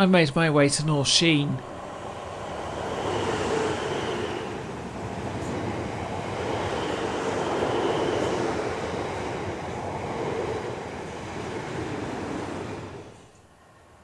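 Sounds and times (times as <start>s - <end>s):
train rail rumble: 0.1s - 14.0s.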